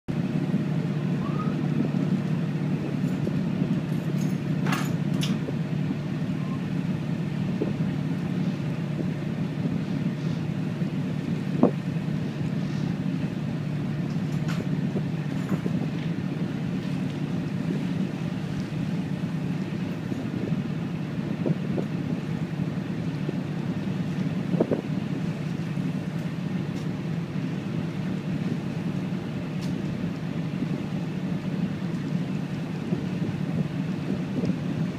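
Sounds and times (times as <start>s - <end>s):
boat engine droning: 0.1s - 34.9s
water and wind hiss: 0.1s - 34.9s.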